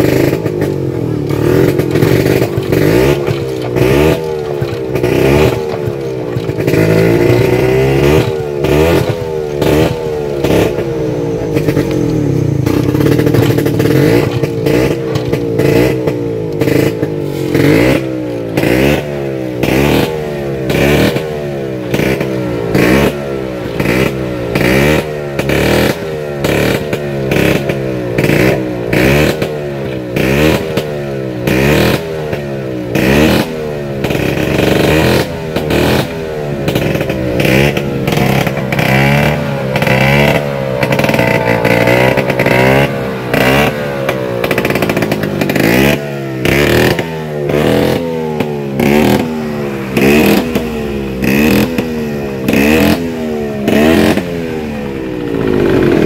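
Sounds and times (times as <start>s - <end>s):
scooter engine revving: 0.0s - 56.0s.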